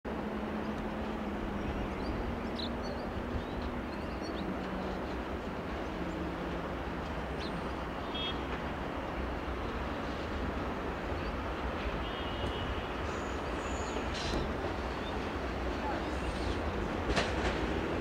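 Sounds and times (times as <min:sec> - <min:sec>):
electric train rumbling: 0:00.1 - 0:18.0.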